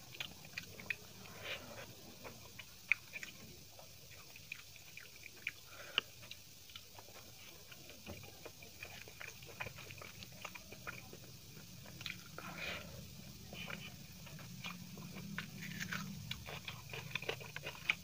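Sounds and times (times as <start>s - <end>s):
chewing and mouth clicks: 0.0s - 18.0s.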